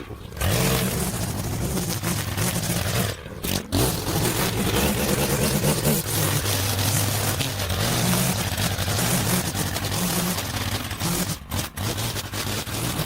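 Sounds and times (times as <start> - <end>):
small gasoline engine running: 0.0 - 13.0.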